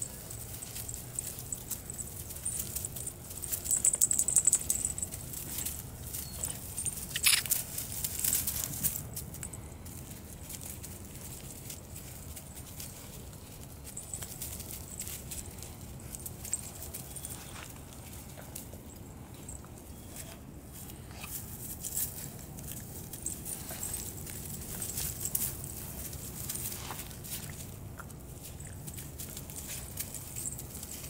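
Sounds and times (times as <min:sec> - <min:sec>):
collar tags jingling: 0:00.0 - 0:31.0
puppies scrabbling on leaves: 0:00.0 - 0:31.0.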